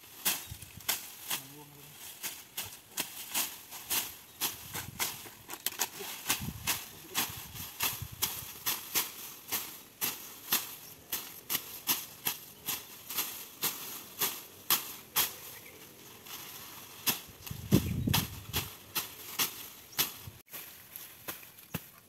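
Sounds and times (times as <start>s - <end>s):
grass being torn out by hand: 0.0s - 22.0s.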